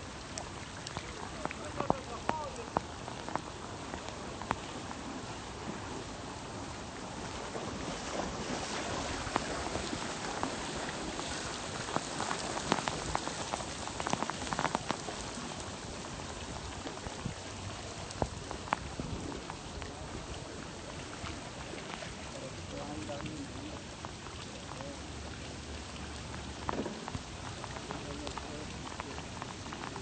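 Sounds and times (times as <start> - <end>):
rain falling on water: 0.0 - 30.0.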